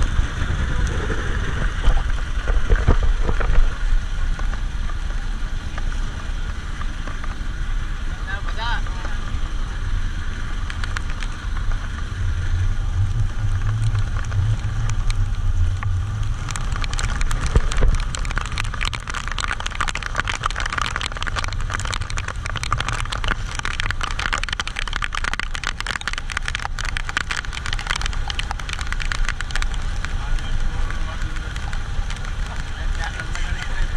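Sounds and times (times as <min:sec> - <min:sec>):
boat engine running: 0:00.0 - 0:33.9
rain pattering: 0:00.0 - 0:33.9.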